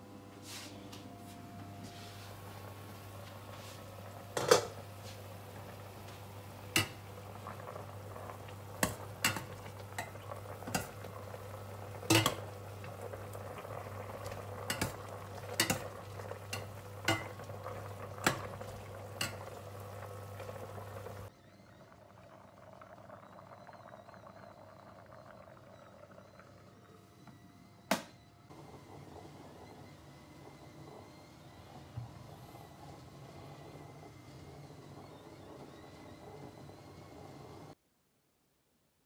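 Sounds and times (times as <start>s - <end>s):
boiling water: 2.0s - 37.8s.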